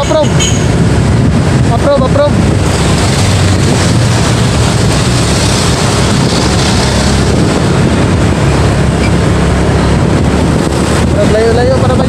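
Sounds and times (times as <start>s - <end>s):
motorcycle engine running: 0.0s - 12.0s
wind rushing on microphone: 0.0s - 12.0s.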